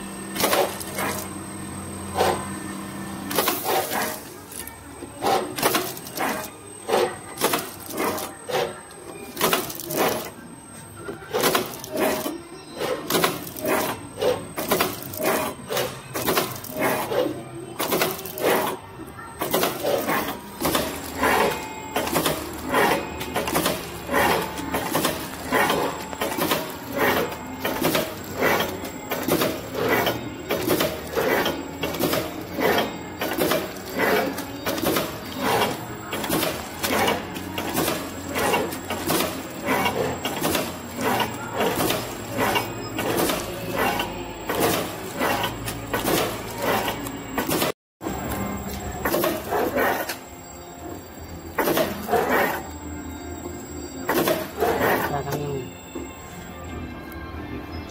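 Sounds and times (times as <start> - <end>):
packing machine clattering: 0.0 - 56.2.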